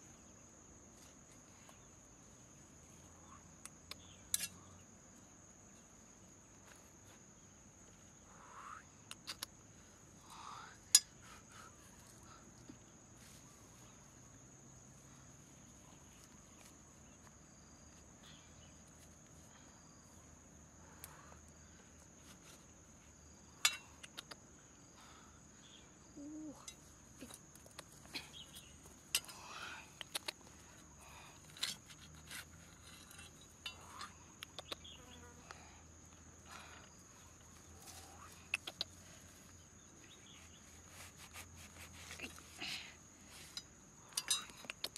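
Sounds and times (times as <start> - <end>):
crickets droning: 0.0 - 44.9.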